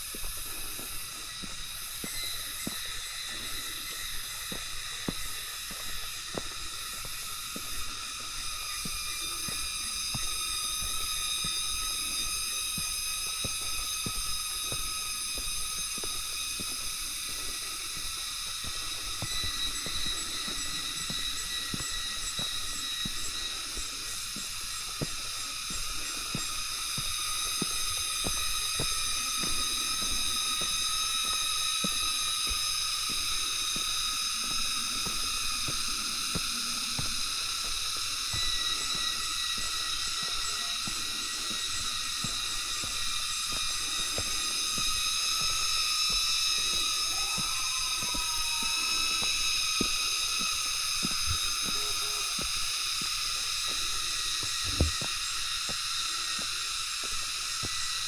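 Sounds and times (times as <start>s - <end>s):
insects buzzing and shrilling: 0.0s - 58.0s.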